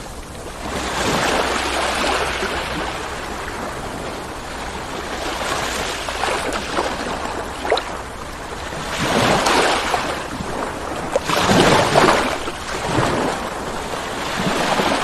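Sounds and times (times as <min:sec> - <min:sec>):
breaking surf: 0:00.0 - 0:15.0
ocean waves washing ashore: 0:00.0 - 0:15.0.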